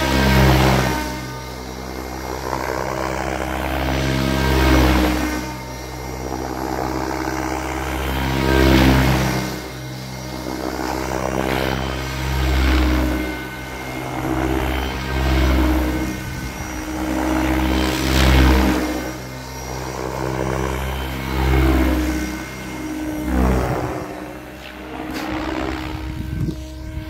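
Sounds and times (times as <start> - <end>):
rc helicopter motor whine: 0.0 - 27.0
rotor blade whoosh: 0.0 - 27.0.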